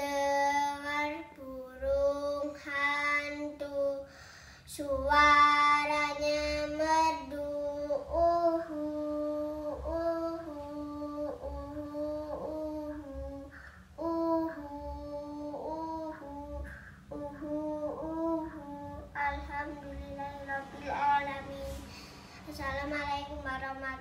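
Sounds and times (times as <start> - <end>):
girl singing hooting notes: 0.0 - 24.0.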